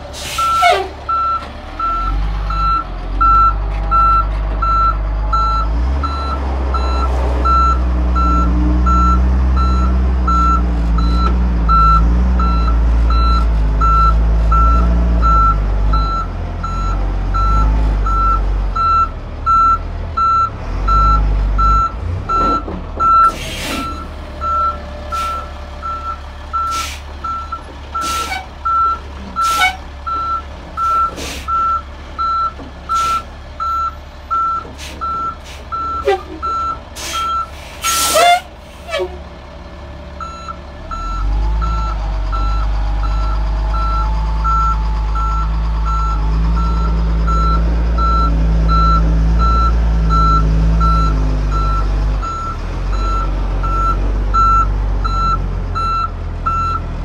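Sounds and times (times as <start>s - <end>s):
truck engine running: 0.0s - 57.0s
truck reversing alarm beeping: 0.2s - 39.0s, 40.2s - 56.9s.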